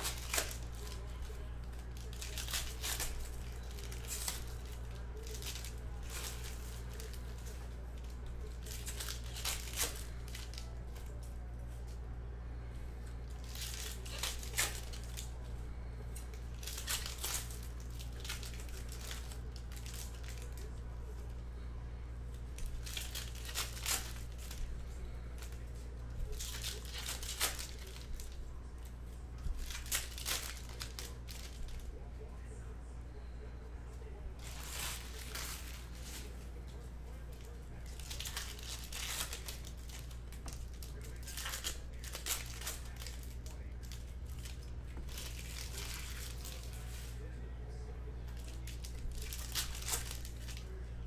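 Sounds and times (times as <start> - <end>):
foil wrappers tearing and crinkling: 0.0 - 11.3, 13.2 - 15.4, 16.1 - 20.8, 22.4 - 31.9, 34.4 - 47.3, 48.3 - 50.8
steady low hum: 0.0 - 51.0.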